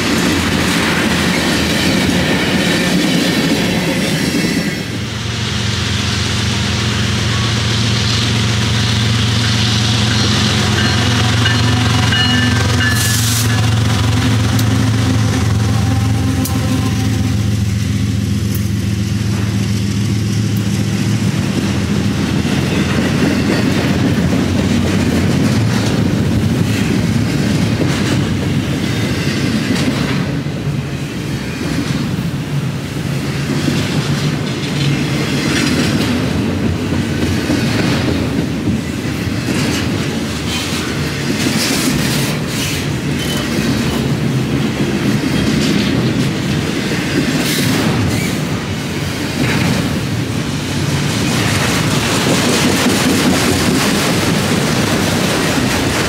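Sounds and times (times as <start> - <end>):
clickety-clack over rail joints: 0.0 - 5.2, 6.2 - 56.0
diesel locomotive hum: 0.0 - 56.0
steel wheels rumbling on rail: 0.0 - 56.0.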